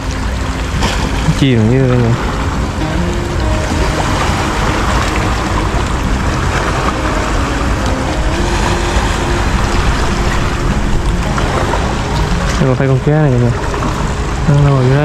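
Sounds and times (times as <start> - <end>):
faint background music: 0.0 - 15.0
sea water rumbling: 0.0 - 15.0
wind buffeting microphone: 0.0 - 15.0.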